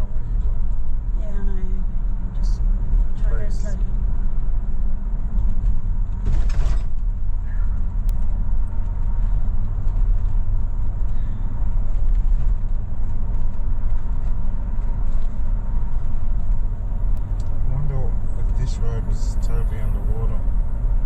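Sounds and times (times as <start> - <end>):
car road rumble: 0.0 - 21.0
vehicle creaks and rattles: 0.0 - 21.0.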